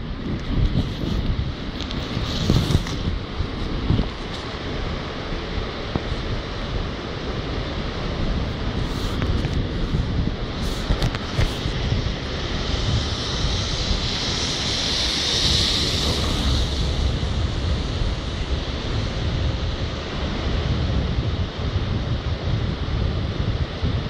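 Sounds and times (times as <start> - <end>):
heavy surf on rocky shore: 0.0 - 24.0
wind buffeting microphone: 0.0 - 24.0.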